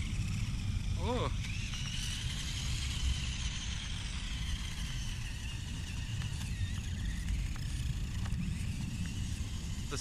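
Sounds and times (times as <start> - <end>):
toy car electric motor whining: 0.0 - 10.0.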